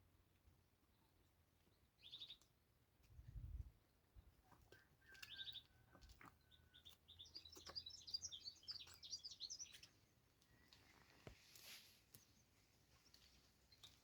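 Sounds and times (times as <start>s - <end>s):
small birds chirping: 0.9s - 14.0s.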